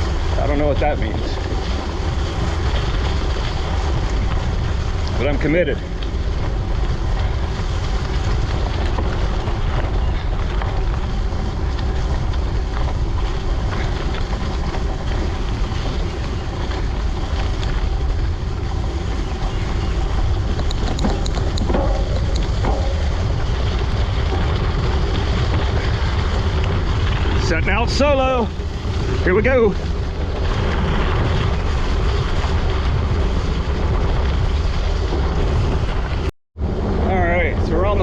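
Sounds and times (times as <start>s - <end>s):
rolling tyre noise: 0.0s - 38.0s
wind rushing over microphone: 0.0s - 38.0s.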